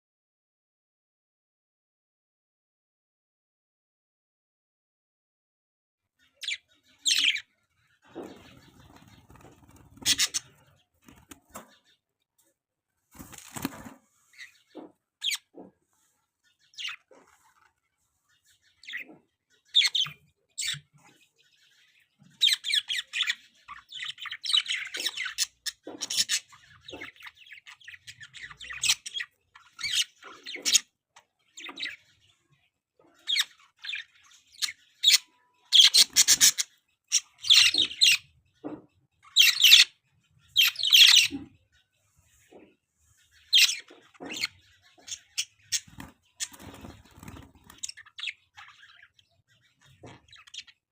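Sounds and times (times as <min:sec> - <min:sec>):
budgerigars chirping: 0:06.2 - 0:12.0, 0:14.2 - 0:50.9.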